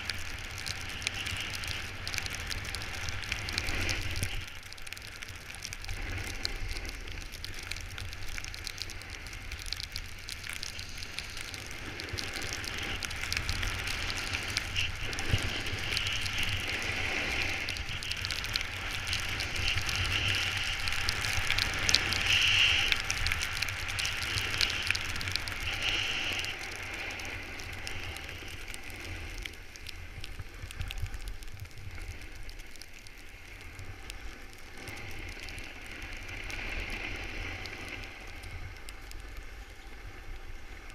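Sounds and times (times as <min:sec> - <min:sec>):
wind rumble on microphone: 0:00.0 - 0:40.9.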